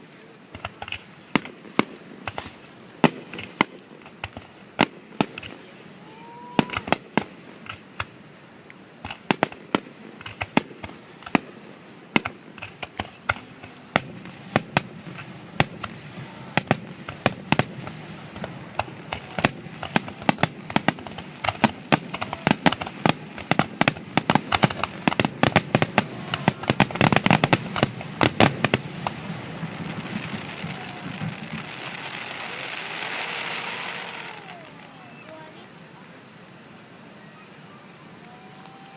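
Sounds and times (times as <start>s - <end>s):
fireworks cracking and banging: 0.0s - 36.2s, 37.2s - 38.9s.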